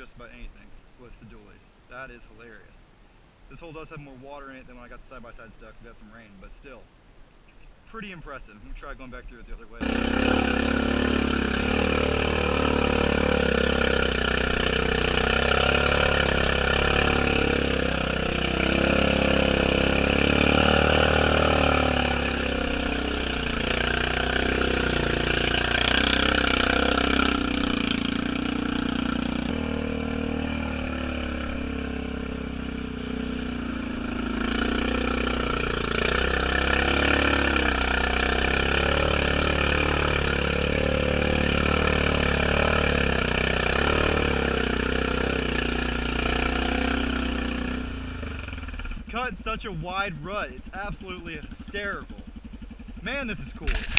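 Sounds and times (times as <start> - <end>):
atv engine revving: 9.8 - 53.9.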